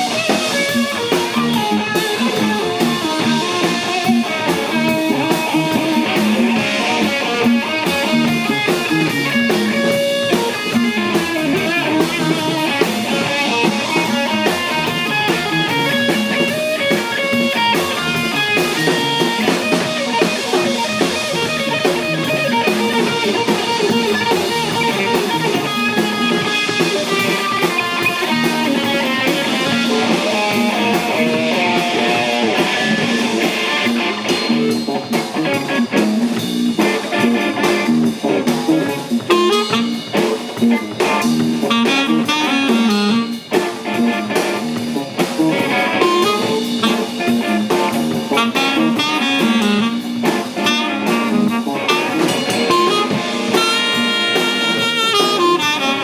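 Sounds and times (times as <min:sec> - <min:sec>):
drum kit: 0:00.0 - 0:56.0
electric guitar lines: 0:00.0 - 0:56.0.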